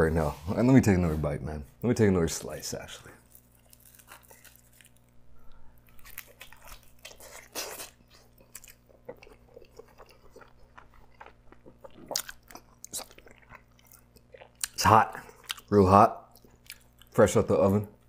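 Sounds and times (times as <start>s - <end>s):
chewing crunchy pizza: 3.2s - 17.9s.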